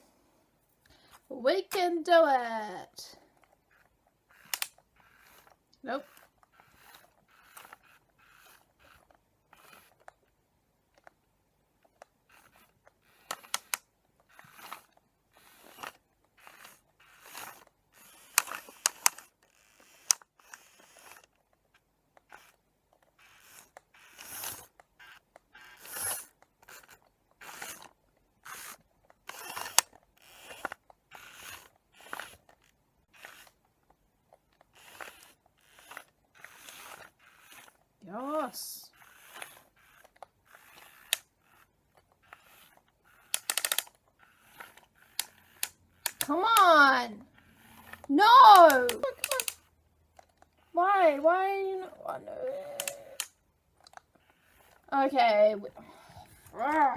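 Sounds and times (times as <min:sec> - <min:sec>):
toy motors whirring and clicking: 0:00.8 - 0:56.9.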